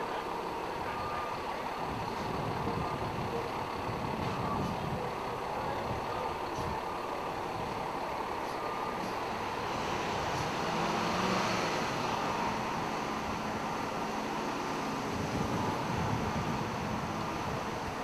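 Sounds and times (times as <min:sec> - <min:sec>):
diesel engine running at low speed: 0:00.0 - 0:18.0
street traffic hum: 0:00.0 - 0:18.0.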